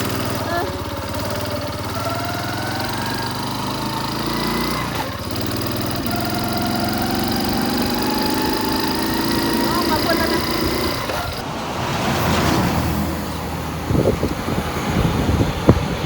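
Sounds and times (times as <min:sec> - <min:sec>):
small vehicle engine running: 0:00.0 - 0:16.0.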